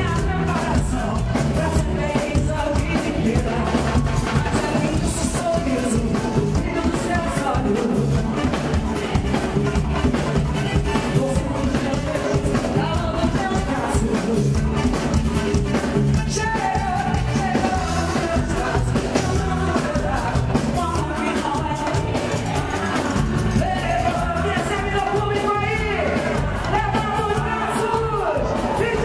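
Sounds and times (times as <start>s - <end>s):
woman singing: 0.0s - 27.1s
live pop band playing: 0.0s - 29.0s.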